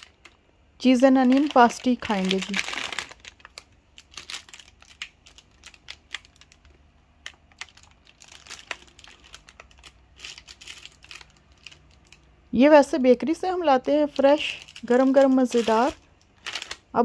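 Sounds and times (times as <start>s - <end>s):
plastic wrappers crinkling: 0.0s - 12.4s, 13.2s - 17.0s.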